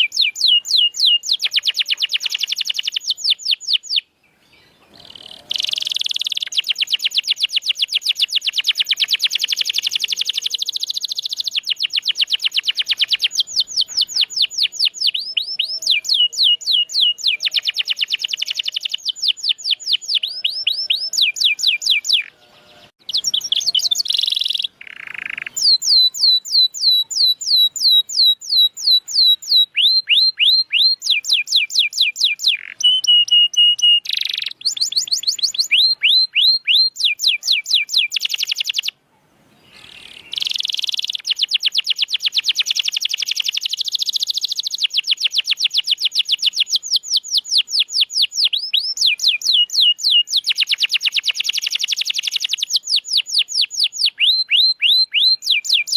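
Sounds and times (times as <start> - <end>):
canary trilling song: 0.0 - 55.9.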